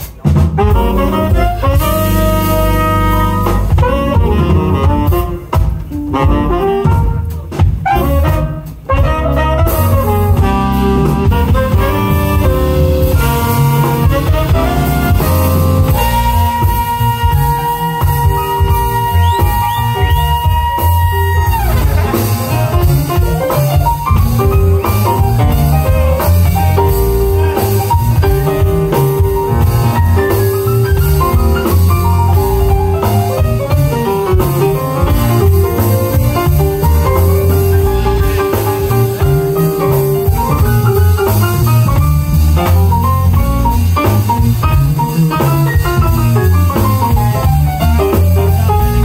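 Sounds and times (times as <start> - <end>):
jazz band playing: 0.0 - 49.0.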